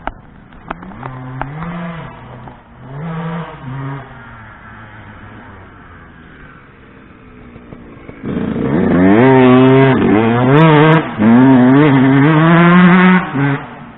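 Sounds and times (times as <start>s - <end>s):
two-stroke motorcycle revving: 0.0s - 13.9s.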